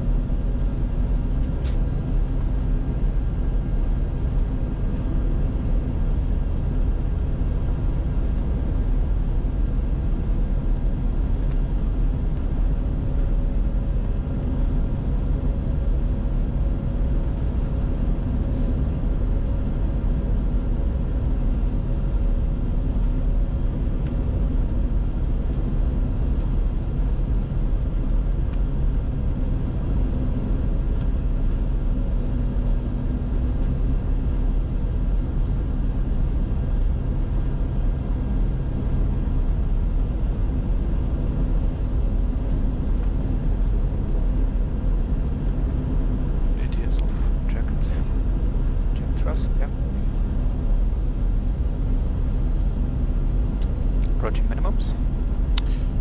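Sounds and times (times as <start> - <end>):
faint steady hums: 0.0 - 56.0
jet cockpit rumble: 0.0 - 56.0.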